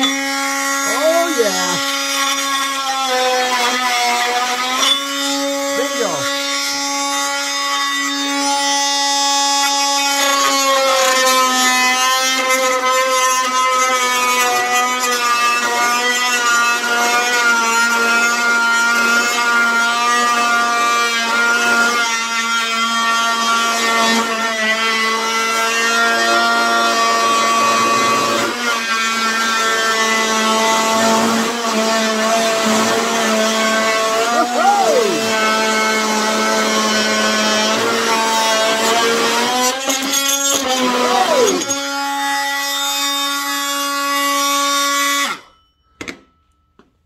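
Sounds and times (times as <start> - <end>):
saw blade rasping through wood: 0.0 - 45.5
oscillating tool buzzing: 0.0 - 45.6.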